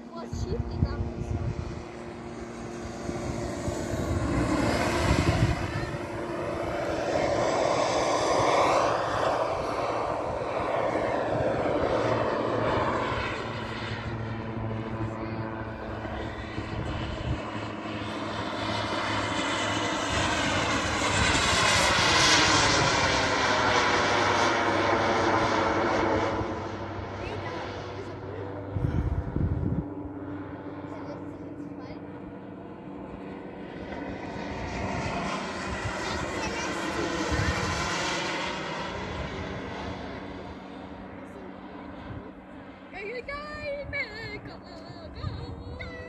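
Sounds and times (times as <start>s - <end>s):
model airplane engine passing overhead: 0.0s - 46.0s.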